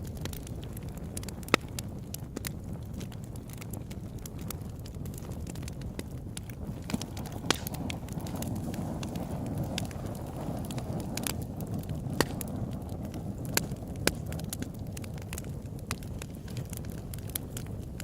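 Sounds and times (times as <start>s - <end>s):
low fire rumble: 0.0s - 18.0s
sharp pops of fire: 0.0s - 18.0s
wood fire crackling: 0.0s - 18.0s.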